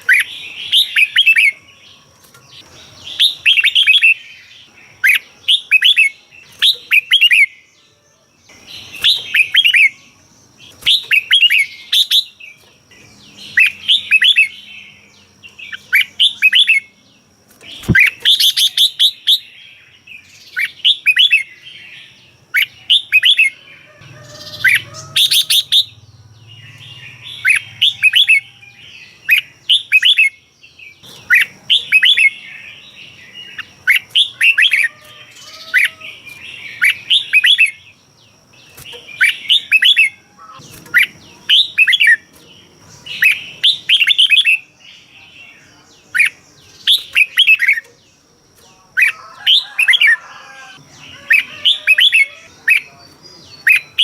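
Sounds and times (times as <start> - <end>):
bird singing whistled notes: 0.0 - 17.0, 17.6 - 38.0, 38.6 - 48.0.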